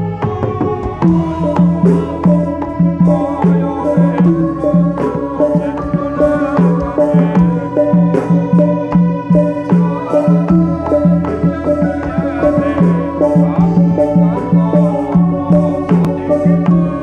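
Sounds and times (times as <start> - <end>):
held melodic tones: 0.0 - 17.0
drum beating quick pattern: 0.4 - 17.0
sharp percussion strokes: 1.0 - 17.0.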